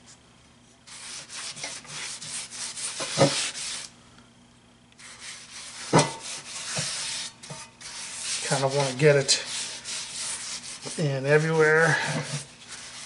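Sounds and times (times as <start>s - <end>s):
paper towel rubbing cast iron: 0.9s - 3.9s, 5.0s - 13.0s.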